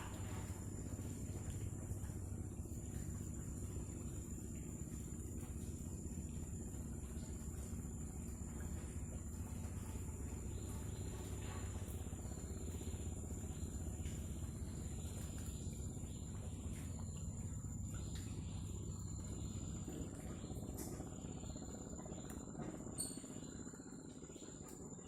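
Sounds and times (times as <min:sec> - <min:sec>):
insect chirring: 0:00.0 - 0:25.0.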